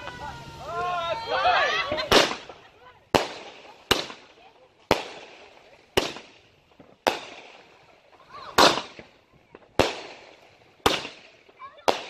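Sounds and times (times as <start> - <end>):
firework shells banging: 1.8 - 12.0.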